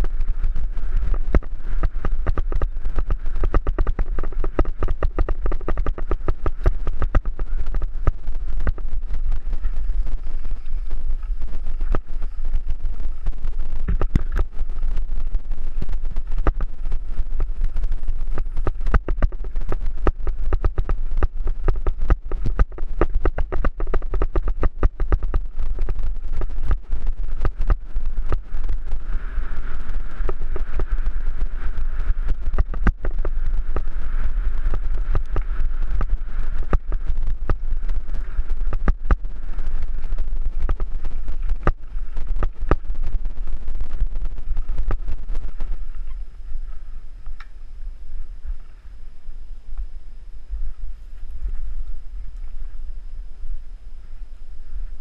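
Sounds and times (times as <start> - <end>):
bike rattling over stones: 0.0 - 46.8
wind rumble on microphone: 0.0 - 55.0.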